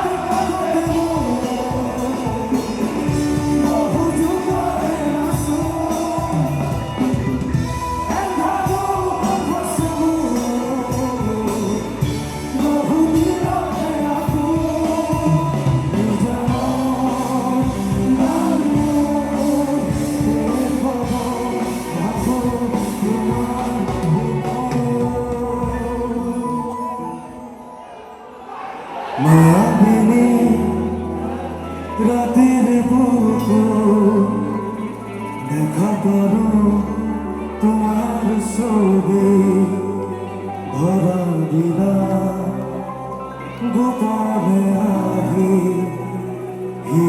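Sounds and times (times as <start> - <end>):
drums: 0.0 - 26.8, 29.2 - 43.0
live rock band music: 0.0 - 27.7, 29.2 - 47.0.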